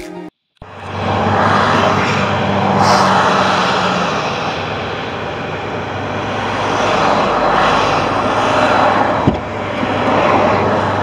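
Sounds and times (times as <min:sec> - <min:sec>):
road traffic: 0:00.6 - 0:11.0
vehicle passing by: 0:00.6 - 0:11.0.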